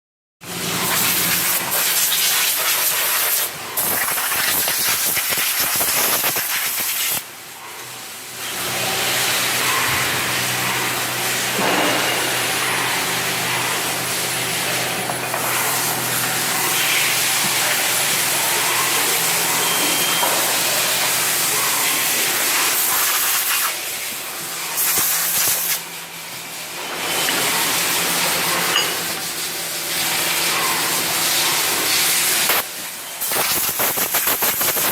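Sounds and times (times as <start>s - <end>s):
loud machining hiss: 0.7s - 7.3s, 8.6s - 25.9s, 26.7s - 34.9s.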